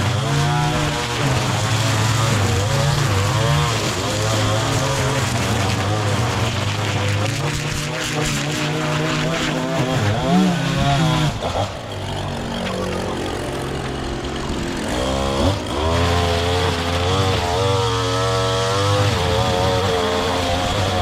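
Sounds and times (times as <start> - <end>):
small gas engine running: 0.0 - 21.0.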